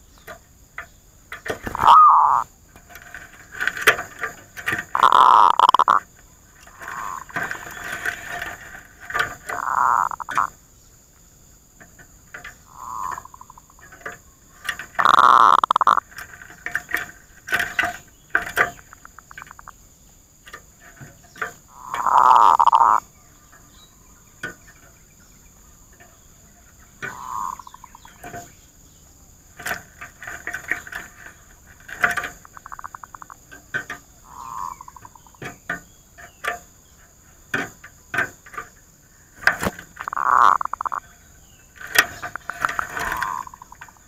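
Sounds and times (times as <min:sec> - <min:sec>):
doves cooing: 0:01.3 - 0:10.6, 0:11.9 - 0:19.9, 0:20.5 - 0:23.7, 0:25.6 - 0:28.5, 0:29.4 - 0:44.0.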